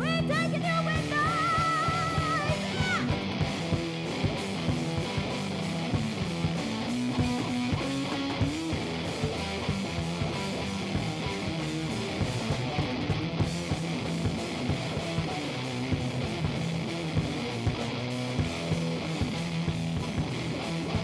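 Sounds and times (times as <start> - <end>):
drum beat: 0.0 - 21.0
electric guitar: 0.0 - 21.0.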